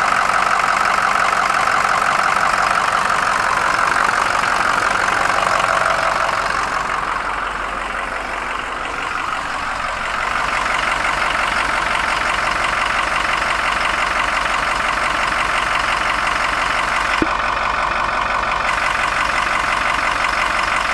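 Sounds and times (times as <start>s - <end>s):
diesel truck engine idling: 0.0s - 20.9s.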